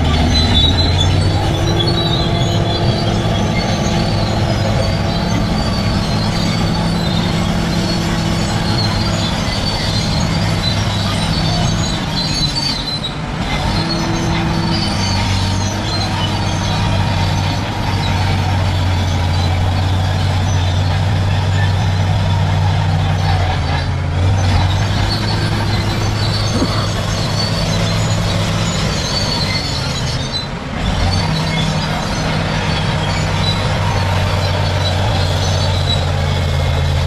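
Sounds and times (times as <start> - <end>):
bulldozer diesel engine: 0.0 - 37.0
steel tracks squealing: 0.0 - 37.0.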